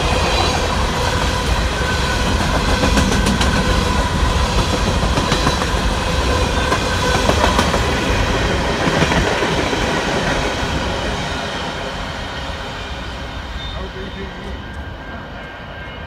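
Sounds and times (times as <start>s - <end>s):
steel wheels rumbling on rail: 0.0s - 16.0s.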